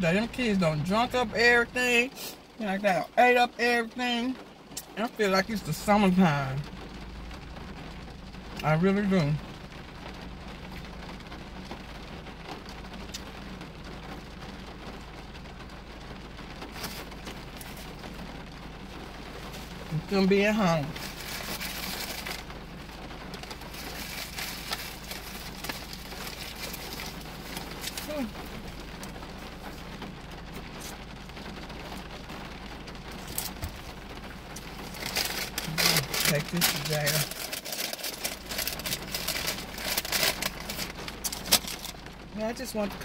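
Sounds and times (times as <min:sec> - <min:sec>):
rushing noise inside car: 0:00.0 - 0:43.0.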